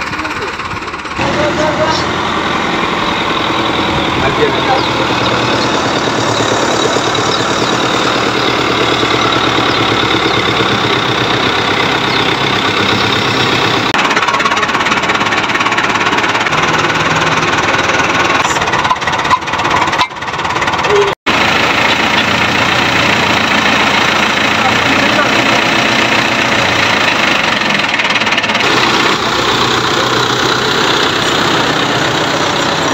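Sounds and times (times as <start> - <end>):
diesel tractor engine idling: 0.0 - 32.9.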